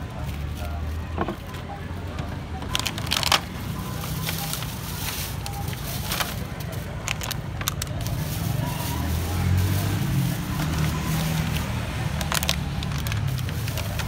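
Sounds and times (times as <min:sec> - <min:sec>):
plastic bags crinkling: 0:02.7 - 0:14.0.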